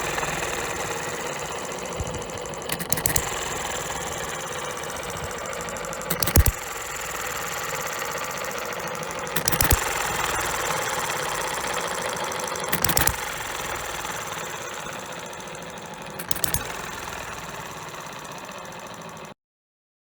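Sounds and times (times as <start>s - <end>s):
engine mechanical clatter: 0.0s - 19.4s
model engine firing strokes: 0.0s - 19.4s.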